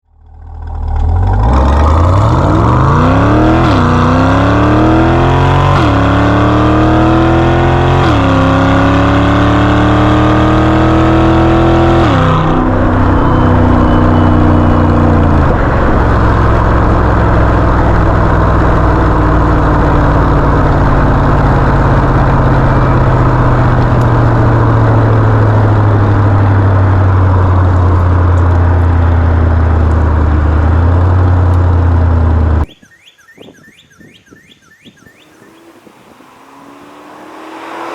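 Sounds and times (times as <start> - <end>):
car engine accelerating: 0.0 - 32.7, 35.1 - 37.9.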